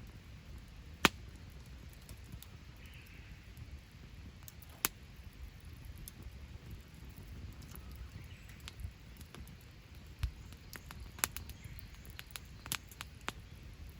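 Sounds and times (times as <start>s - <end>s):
fire sharp pops: 0.0s - 13.9s
low steady rumble: 0.0s - 13.9s
wood fire crackling: 0.0s - 13.9s.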